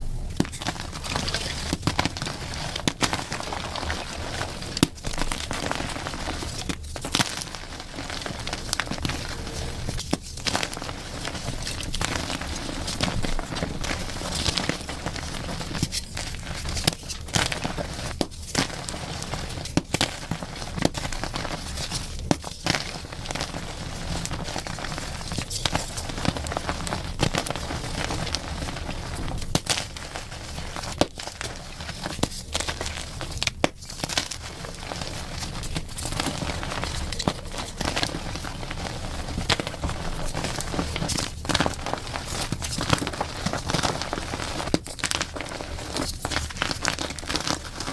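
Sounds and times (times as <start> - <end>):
chalk crunching and snapping: 0.4 - 47.9.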